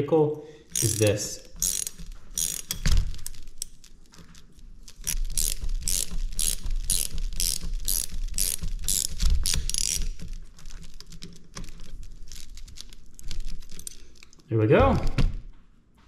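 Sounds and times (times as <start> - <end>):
ratcheting wrench clicking: 0.7 - 14.4.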